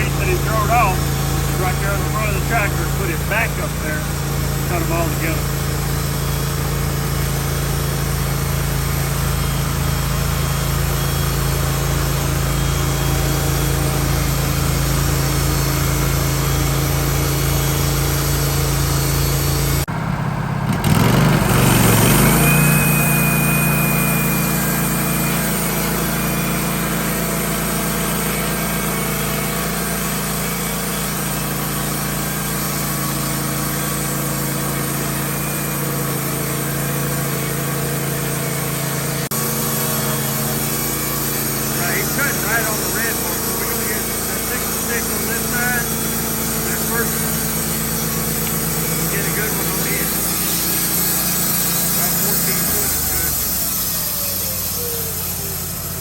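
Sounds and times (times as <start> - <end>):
bandsaw mill sawing log: 0.0 - 20.0, 20.6 - 56.0.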